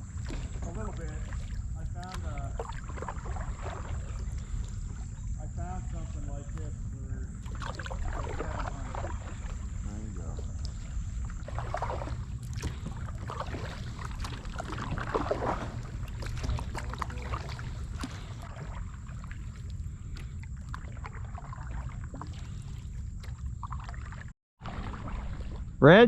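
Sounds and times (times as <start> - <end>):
wind rumble on microphone: 0.0 - 24.1
water splashing and lapping: 0.0 - 26.0.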